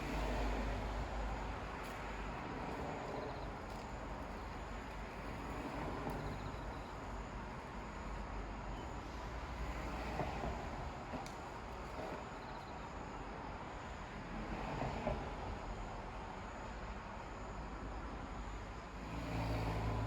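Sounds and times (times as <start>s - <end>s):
far-off traffic rumble: 0.0s - 16.2s, 17.4s - 20.0s.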